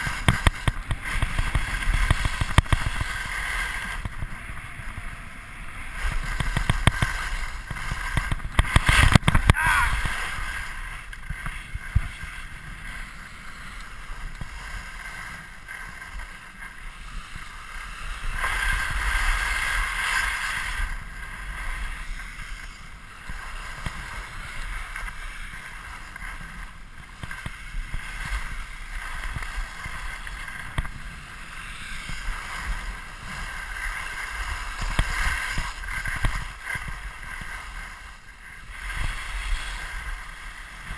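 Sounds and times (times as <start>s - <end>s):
skis scraping over snow: 0.0s - 40.9s
wind rumbling on microphone: 0.0s - 40.9s.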